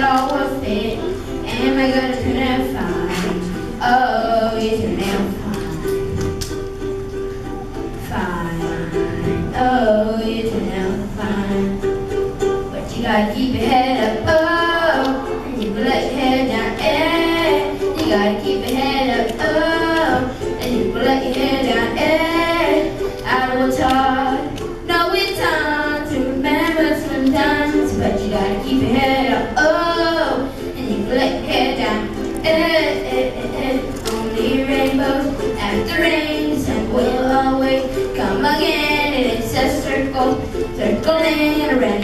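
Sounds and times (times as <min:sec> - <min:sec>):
boy singing into microphone: 0:00.0 - 0:06.3, 0:08.0 - 0:11.9, 0:12.7 - 0:42.0
strummed ukulele: 0:00.0 - 0:42.0.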